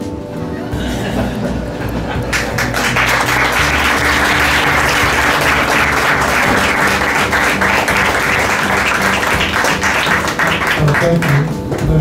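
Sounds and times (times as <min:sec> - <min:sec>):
faint background music: 0:00.0 - 0:12.0
audience applauding: 0:01.9 - 0:12.0.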